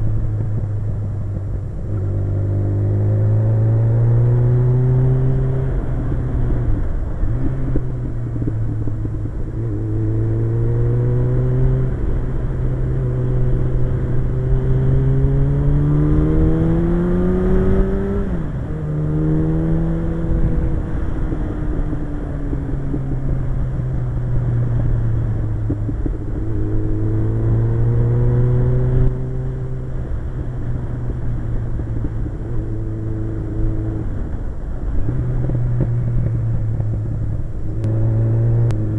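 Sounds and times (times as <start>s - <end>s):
motorcycle engine revving: 0.0s - 38.9s
wind rush on microphone: 0.0s - 38.9s.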